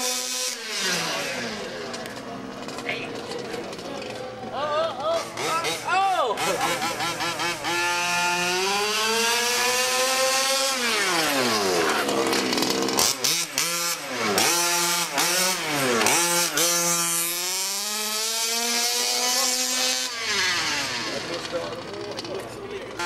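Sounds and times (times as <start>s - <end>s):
rc car engine revving: 0.0s - 4.4s, 5.0s - 23.0s.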